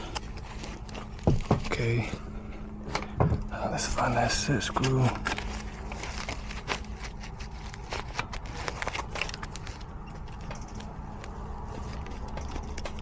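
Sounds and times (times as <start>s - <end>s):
small clicks and scrapes of handling: 0.0s - 2.0s, 4.5s - 13.0s
steady low hum: 0.0s - 13.0s.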